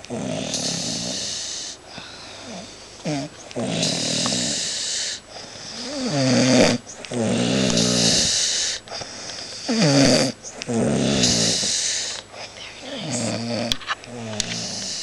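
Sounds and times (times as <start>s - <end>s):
man snoring: 0.0s - 12.2s, 12.8s - 15.0s.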